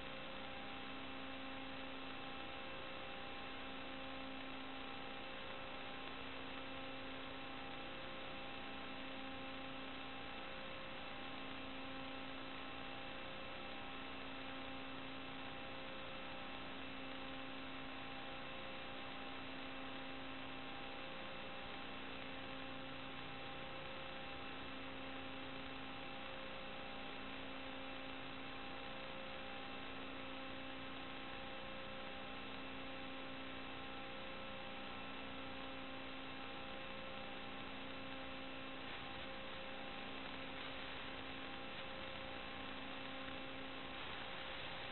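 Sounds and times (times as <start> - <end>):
electrical hiss and hum: 0.0 - 44.9.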